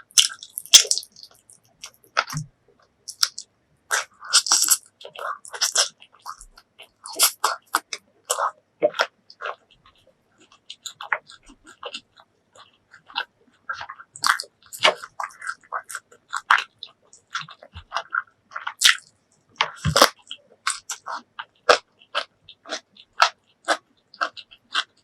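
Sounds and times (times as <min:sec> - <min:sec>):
person chewing crunchy food: 0:00.0 - 0:25.0.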